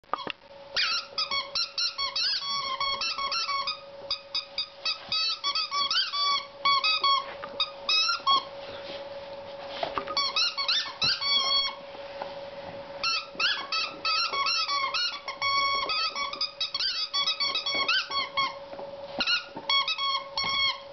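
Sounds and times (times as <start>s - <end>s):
rubber squeaky toy squeaking: 0.2s - 8.5s, 10.2s - 11.8s, 13.0s - 18.6s, 19.2s - 20.9s.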